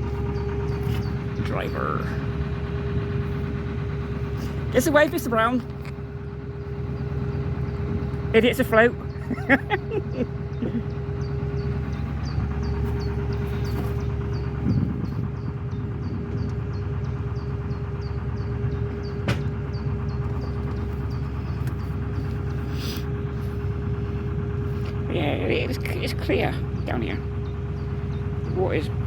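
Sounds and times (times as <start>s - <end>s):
boat diesel engine throbbing: 0.0s - 29.0s.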